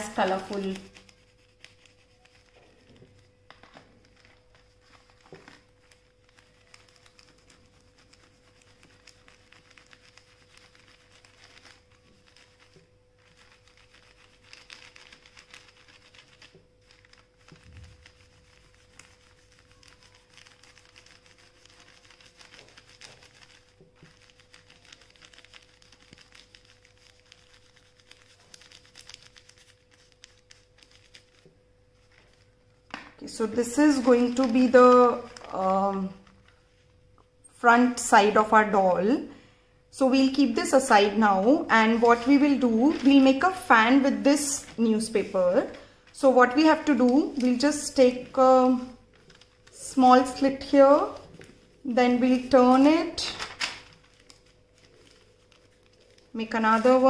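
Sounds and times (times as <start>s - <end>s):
oil pastels scratching on paper: 0.0s - 32.5s, 33.3s - 36.3s, 40.1s - 53.4s, 54.2s - 57.0s
paper rustling and crinkling: 0.0s - 36.9s, 41.8s - 57.0s
faint steady hum: 0.0s - 57.0s.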